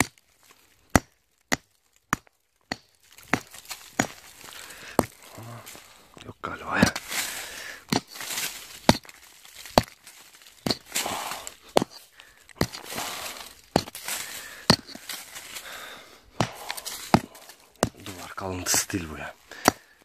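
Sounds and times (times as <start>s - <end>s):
hammer striking packed earth: 0.0s - 0.2s, 0.9s - 5.9s, 6.6s - 20.0s
soil and grit spilling: 2.8s - 20.0s.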